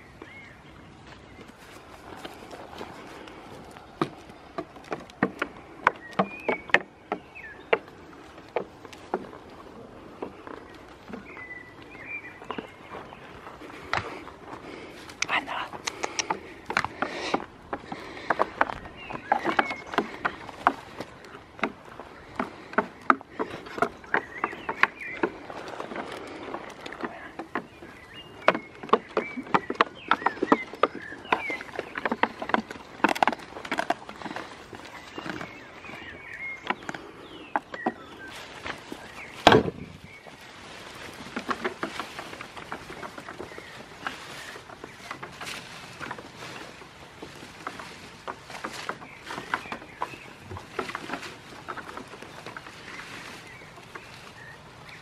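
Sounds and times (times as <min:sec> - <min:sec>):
hooves clattering on wooden pallets: 0:00.0 - 0:55.0.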